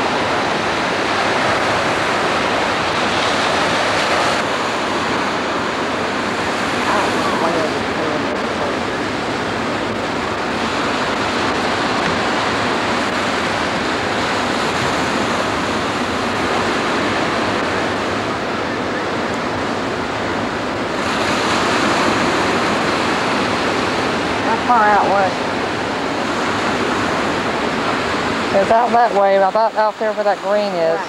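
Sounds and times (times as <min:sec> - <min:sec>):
waves breaking on a beach: 0:00.0 - 0:31.0.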